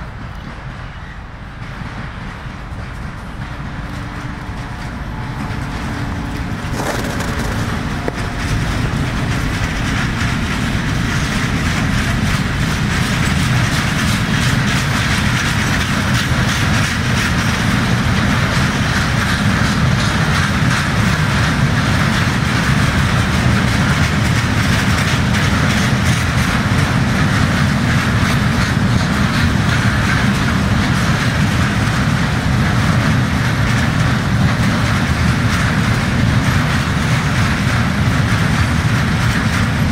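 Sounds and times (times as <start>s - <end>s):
freight wagon wheels clattering: 1.6s - 39.9s.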